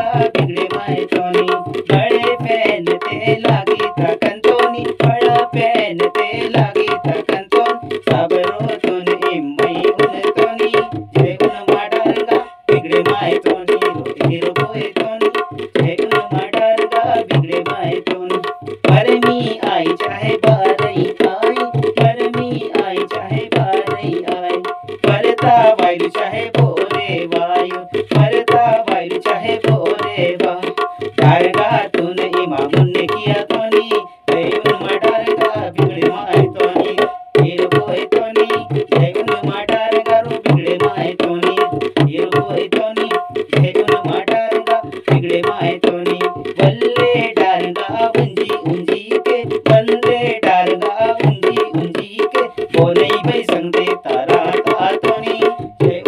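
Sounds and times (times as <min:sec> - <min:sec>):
hand drum playing rhythm: 0:00.0 - 0:56.0
man singing folk song: 0:00.0 - 0:56.0.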